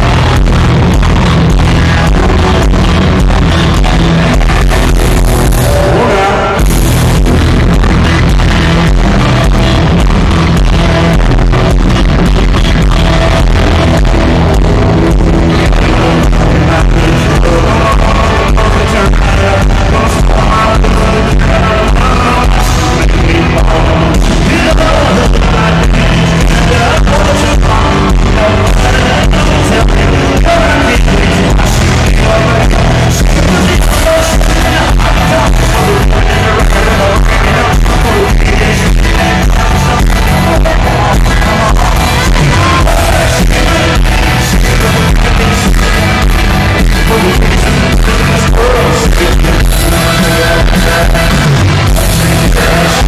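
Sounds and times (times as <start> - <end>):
steady drum beat: 0.0 - 5.8, 6.6 - 53.0
country-rock band playing live: 0.0 - 53.0
man singing: 0.0 - 53.0.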